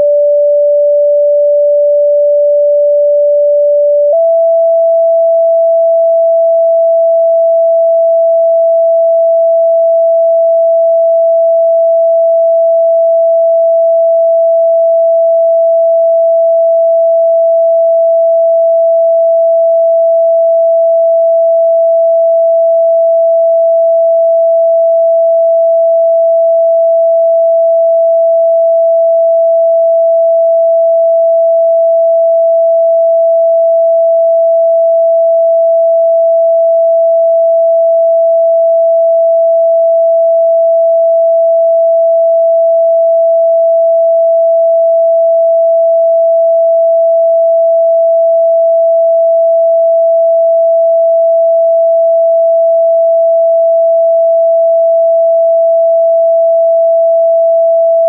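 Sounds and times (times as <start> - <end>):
steady sine tone: 0.0 - 58.0.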